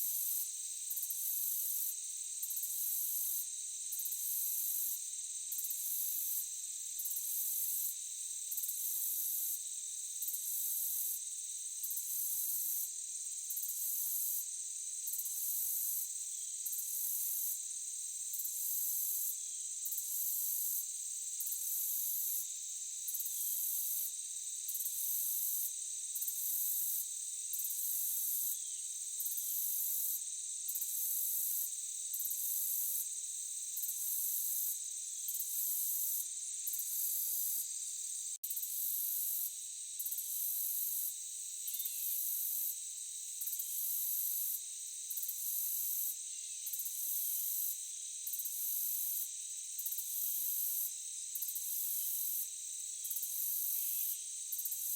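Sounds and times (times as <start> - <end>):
shrill insect trill: 0.0 - 54.9
insects droning: 0.2 - 54.9.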